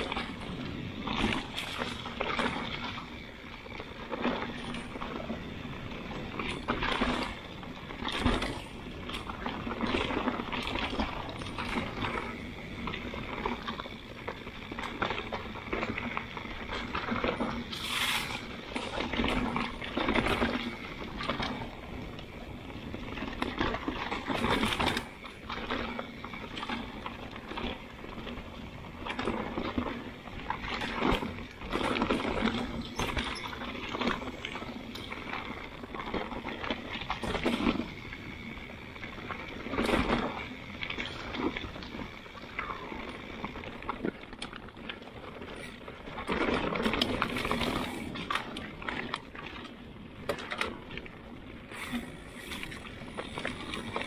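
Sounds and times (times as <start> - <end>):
bike knocking and rattling: 0.0 - 54.0
bike tyres rolling on dirt: 0.0 - 54.0.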